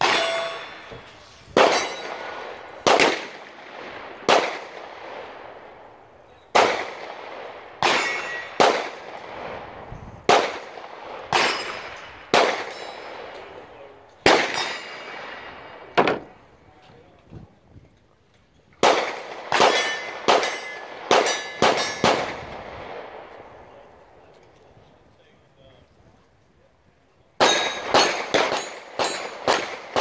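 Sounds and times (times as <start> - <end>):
gunshots with echoing decay: 0.0 - 16.6, 18.8 - 24.7, 27.4 - 30.0.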